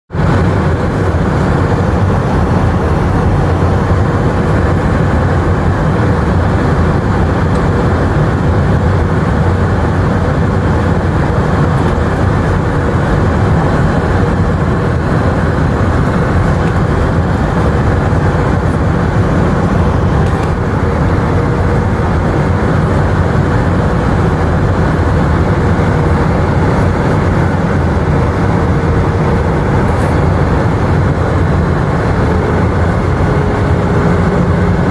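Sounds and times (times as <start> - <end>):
aircraft engines and airflow roar: 0.0 - 34.9
faint steady whine: 0.2 - 34.9.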